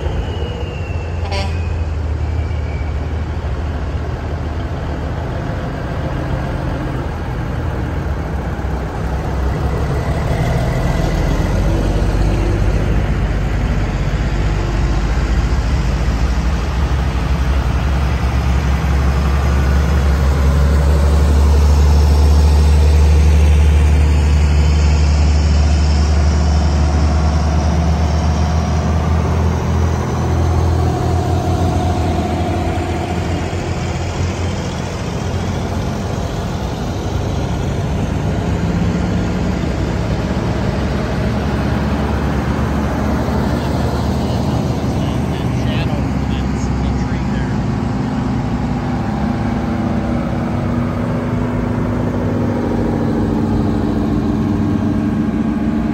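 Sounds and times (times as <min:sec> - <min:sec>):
diesel truck engines passing: 0:00.0 - 0:55.9.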